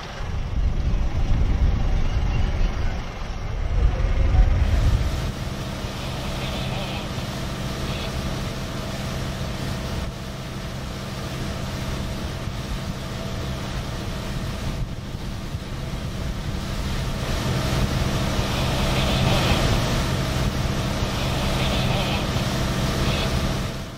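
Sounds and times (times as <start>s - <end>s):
motorboat engine drone: 0.0s - 23.9s
water noise: 0.0s - 23.9s
wind: 0.0s - 23.9s.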